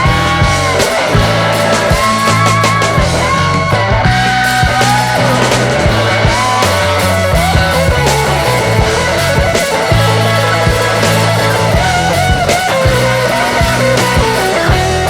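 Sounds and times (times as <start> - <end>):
rock music with drums and bass: 0.0 - 15.0.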